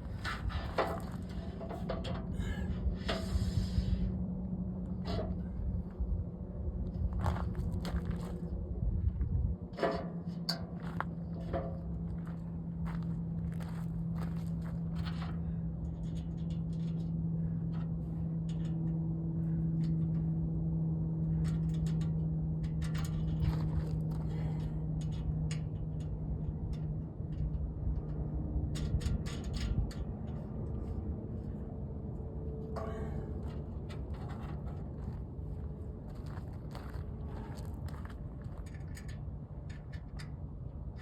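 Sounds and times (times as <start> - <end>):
low rumble: 0.0 - 41.0.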